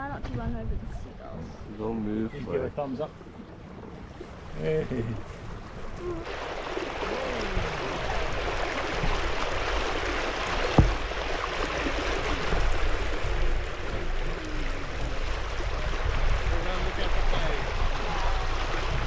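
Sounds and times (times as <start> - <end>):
wind rumble on microphone: 0.0 - 1.8, 3.7 - 19.0
water splashing along boat hull: 0.0 - 19.0.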